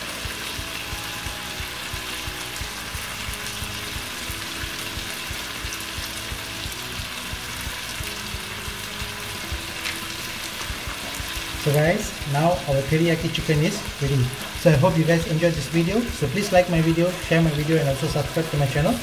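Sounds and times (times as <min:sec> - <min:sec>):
sauce sizzling in a frying pan: 0:00.0 - 0:19.0.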